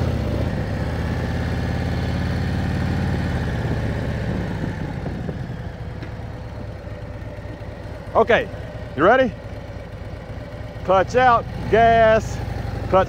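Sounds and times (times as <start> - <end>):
motorcycle engine running slowly: 0.0 - 13.0.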